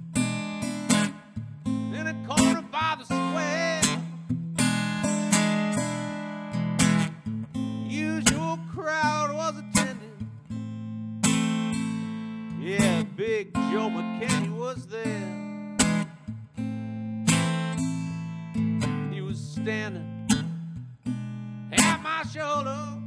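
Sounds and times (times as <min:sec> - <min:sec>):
acoustic guitar blues ballad: 0:00.0 - 0:23.0.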